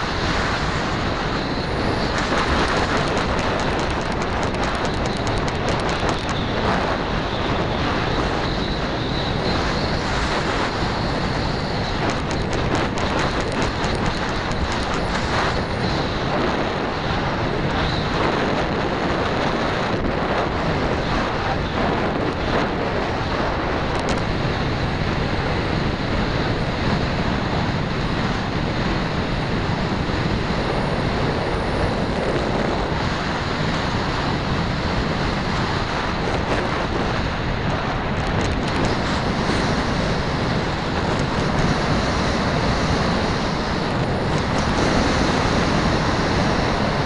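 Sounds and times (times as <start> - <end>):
wind rushing over microphone: 0.0 - 47.0.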